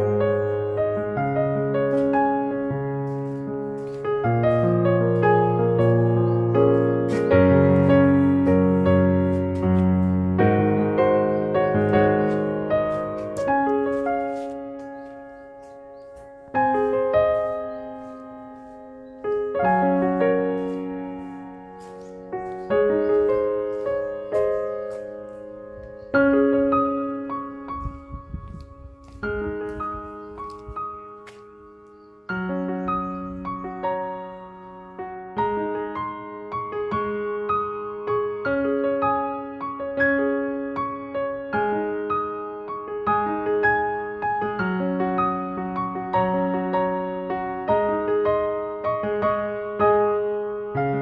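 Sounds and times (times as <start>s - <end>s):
slow electric piano music: 0.0s - 51.0s.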